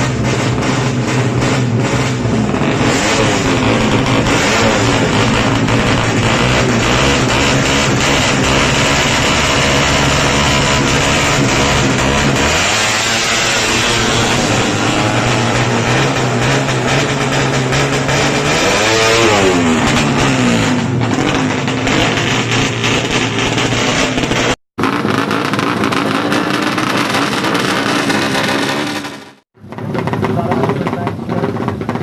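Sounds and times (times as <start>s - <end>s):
motorcycle engine running hard: 0.0s - 32.0s.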